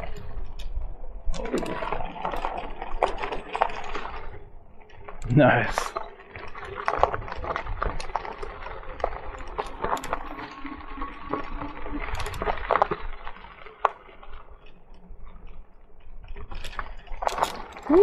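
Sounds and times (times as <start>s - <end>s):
bike clicks and knocks: 0.0s - 18.0s.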